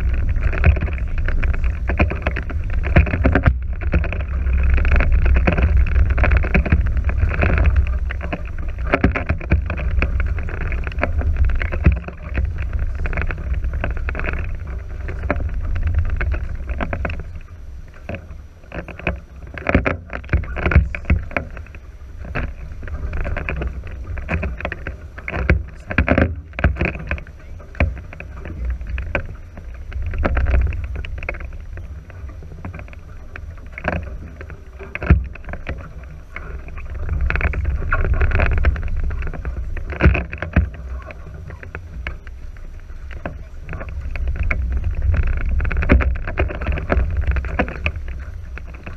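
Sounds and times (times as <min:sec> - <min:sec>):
knocks and splashes: 0:00.0 - 0:42.4
water rushing along hulls: 0:00.0 - 0:48.9
wind buffeting microphone: 0:00.0 - 0:48.9.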